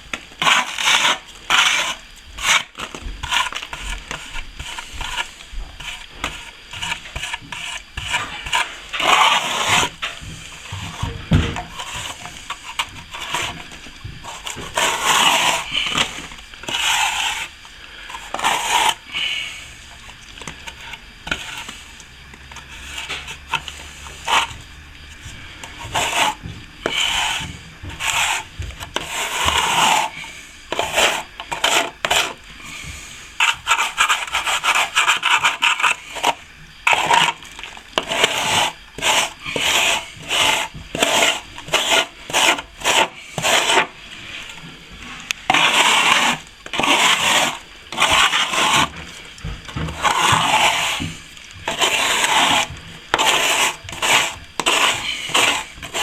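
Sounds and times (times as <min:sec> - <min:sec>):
hand tool scraping plaster: 0:00.3 - 0:19.7, 0:20.4 - 0:56.0.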